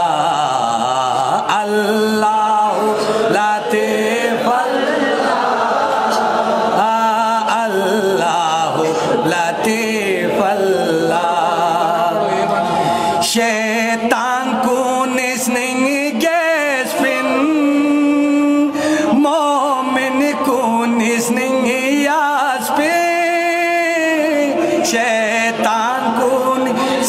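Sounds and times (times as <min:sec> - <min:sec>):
lead reciter at microphone: 0:00.0 - 0:27.0
men chanting devotional poem: 0:00.0 - 0:27.0.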